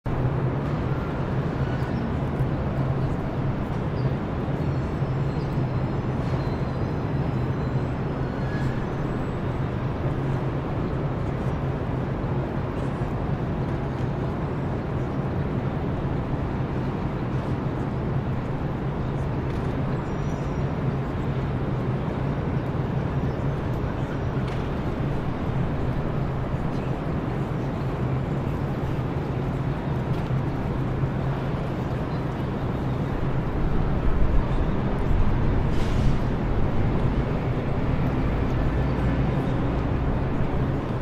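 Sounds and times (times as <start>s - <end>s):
traffic noise: 0.0s - 41.0s
constant low hum: 0.1s - 41.0s.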